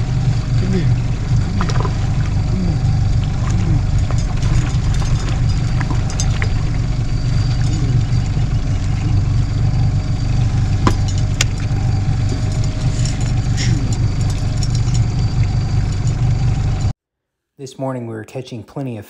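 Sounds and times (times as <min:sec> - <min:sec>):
outboard motor rumbling: 0:00.0 - 0:16.9.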